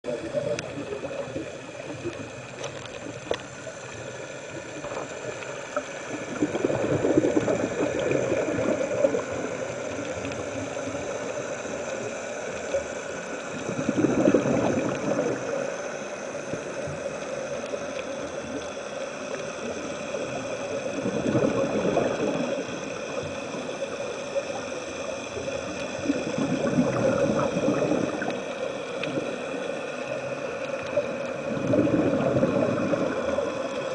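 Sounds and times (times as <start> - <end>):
bubbles gurgling underwater: 0.0 - 11.8, 13.5 - 18.7, 19.3 - 33.9
steady underwater hiss: 0.0 - 33.9.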